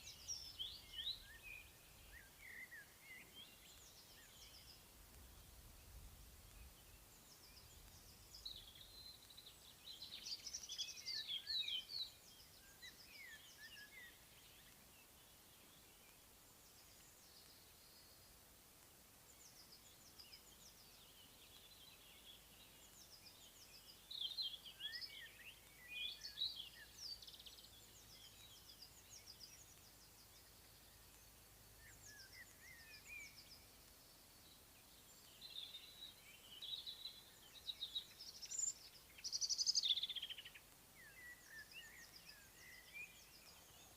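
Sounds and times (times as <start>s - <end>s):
songbirds singing: 0.0s - 43.9s.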